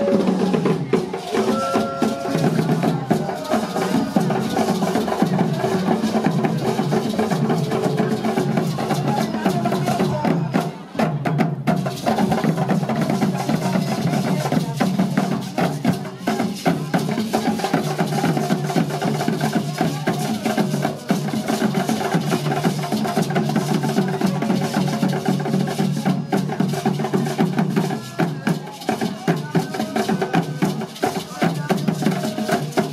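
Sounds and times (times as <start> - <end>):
drum and percussion music: 0.0 - 32.9.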